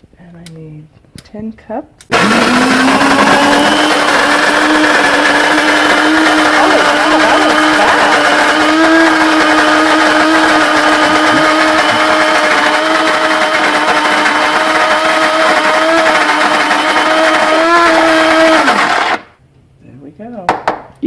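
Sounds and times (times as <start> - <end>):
coffee grinder grinding beans: 2.1 - 19.3.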